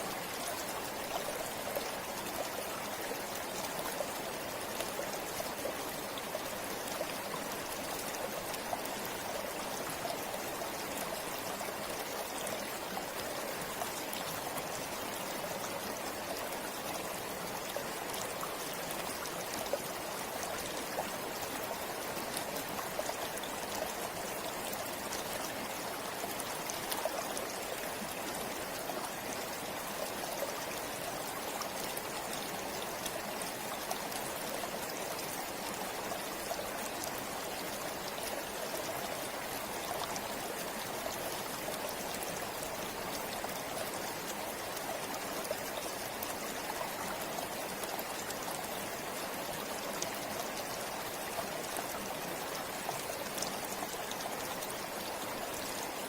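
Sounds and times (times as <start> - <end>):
shallow river over stones: 0.0 - 56.0.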